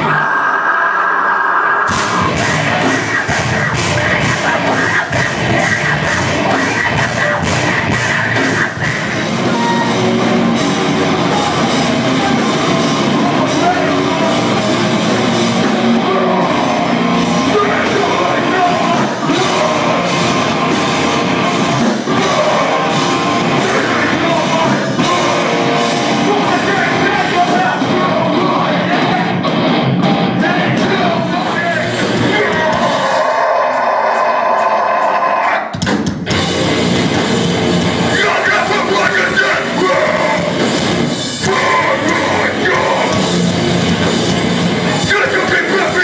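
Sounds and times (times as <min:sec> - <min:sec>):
person singing: 0:00.0 - 0:29.5, 0:30.3 - 0:35.8, 0:38.0 - 0:40.7, 0:41.3 - 0:43.3, 0:44.9 - 0:46.0
distorted guitars: 0:00.0 - 0:46.0
drums: 0:00.0 - 0:46.0
heavy rock band playing: 0:00.0 - 0:46.0.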